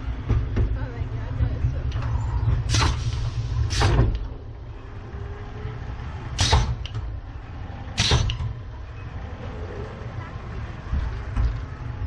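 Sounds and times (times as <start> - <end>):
roller coaster rumble: 0.0 - 12.0.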